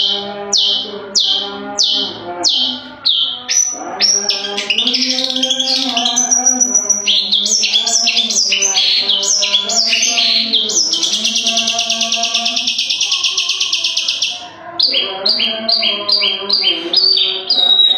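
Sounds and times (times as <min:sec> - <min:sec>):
bird singing: 0:00.0 - 0:17.9.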